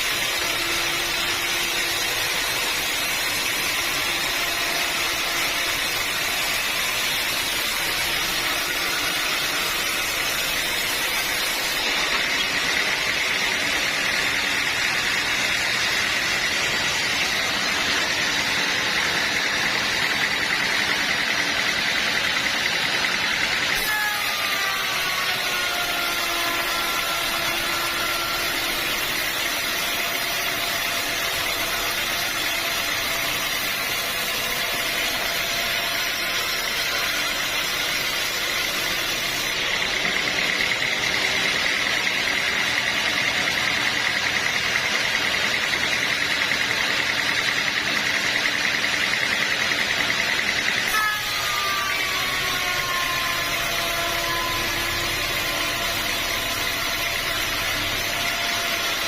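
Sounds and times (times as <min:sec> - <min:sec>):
band saw whining and cutting log: 0:00.0 - 0:59.0.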